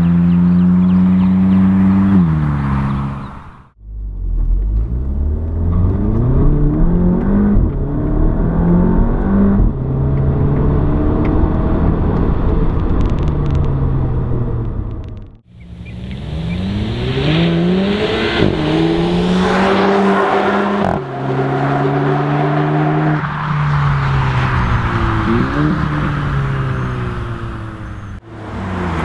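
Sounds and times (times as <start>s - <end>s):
car engine accelerating through gears: 0.0s - 29.0s.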